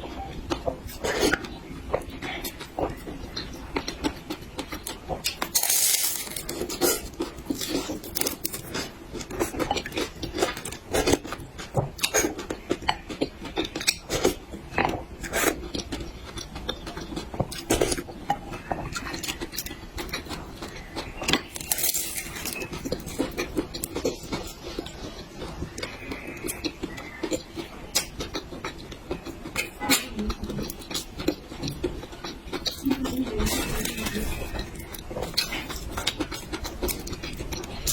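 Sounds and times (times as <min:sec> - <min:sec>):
chewing and mouth sounds: 0:00.0 - 0:37.9.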